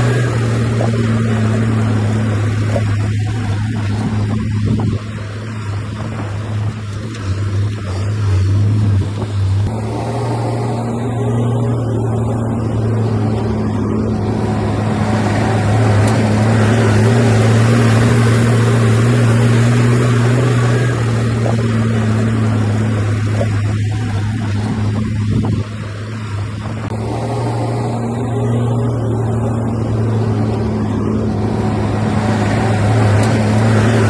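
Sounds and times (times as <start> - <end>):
heavy diesel engine under load: 0.0 - 34.0.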